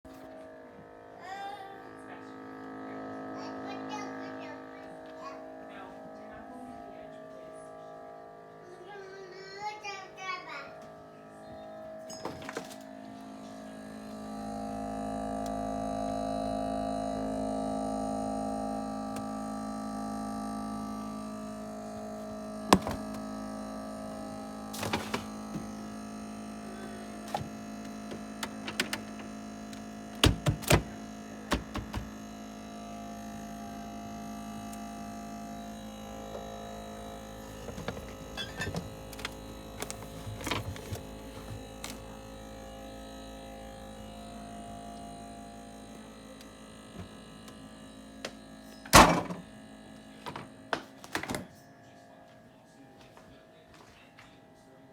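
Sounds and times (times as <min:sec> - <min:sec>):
refrigerator humming: 0:00.1 - 0:52.6.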